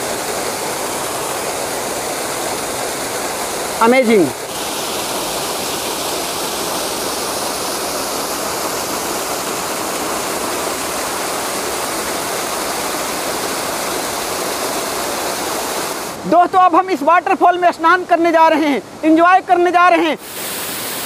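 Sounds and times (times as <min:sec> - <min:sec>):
waterfall rushing onto rocks: 0:00.0 - 0:21.0.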